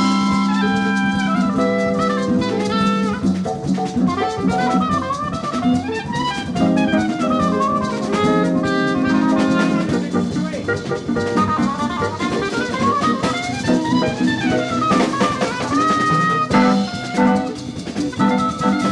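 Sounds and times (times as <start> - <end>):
bass: 0.0 - 18.9
drum kit: 0.0 - 18.9
jazz lead line: 0.0 - 18.9.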